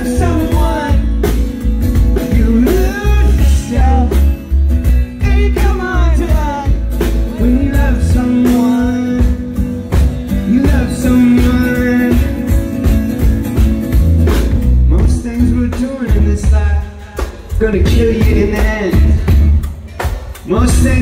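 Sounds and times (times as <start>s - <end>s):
acoustic guitar: 0.0s - 21.0s
drums: 0.0s - 21.0s
electric bass: 0.0s - 21.0s.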